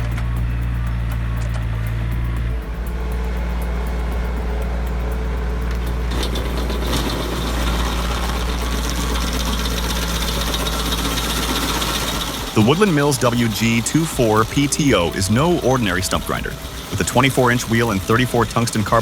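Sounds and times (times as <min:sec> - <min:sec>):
harsh grinding noise: 0:00.0 - 0:19.0
machine engine running: 0:00.0 - 0:19.0.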